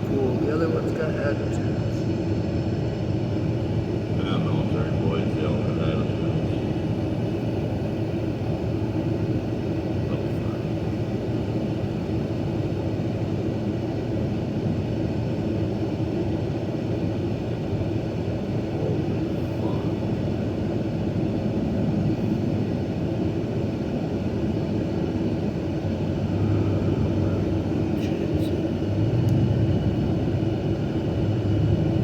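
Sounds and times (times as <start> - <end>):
car engine and road drone: 0.0 - 32.0.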